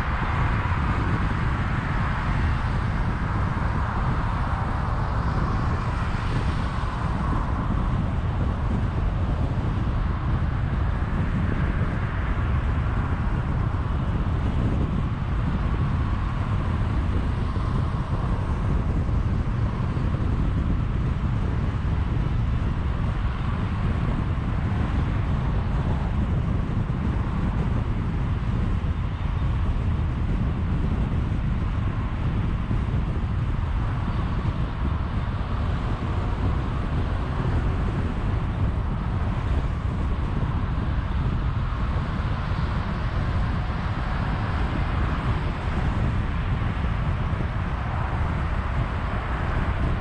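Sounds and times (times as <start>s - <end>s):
tyre and wind rumble: 0.0s - 50.0s.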